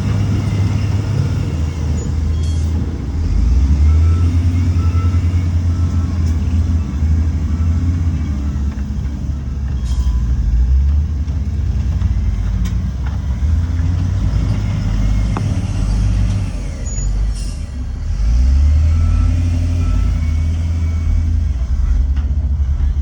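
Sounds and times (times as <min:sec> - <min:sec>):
heavy diesel machinery rumbling: 0:00.0 - 0:23.0.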